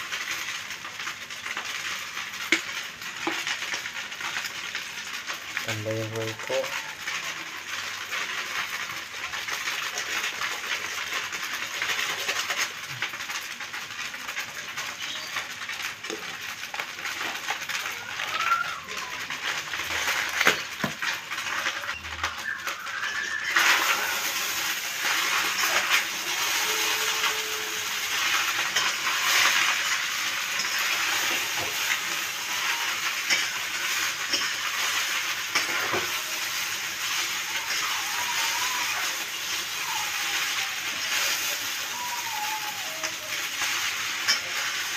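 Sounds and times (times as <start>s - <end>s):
noodles sizzling in oil: 0.0s - 44.9s.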